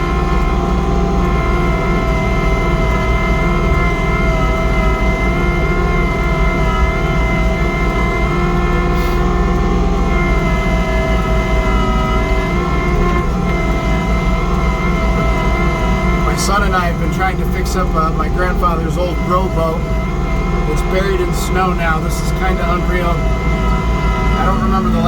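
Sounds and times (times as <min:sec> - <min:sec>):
diesel tractor engine running: 0:00.0 - 0:25.0
snowblower whine: 0:00.0 - 0:25.0.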